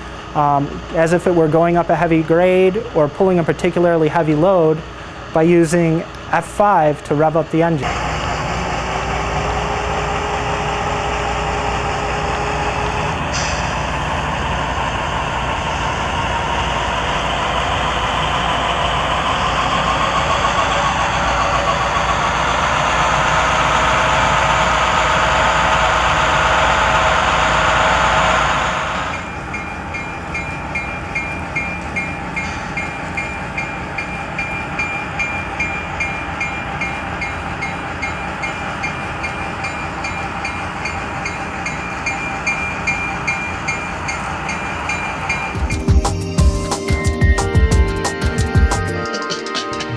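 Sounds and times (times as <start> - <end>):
model locomotive diesel engine sound: 0.0 - 49.1.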